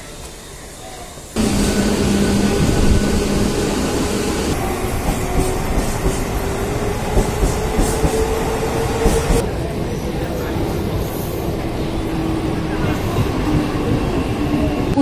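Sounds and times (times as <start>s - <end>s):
rumble of train wheels on rails: 0.0s - 15.0s.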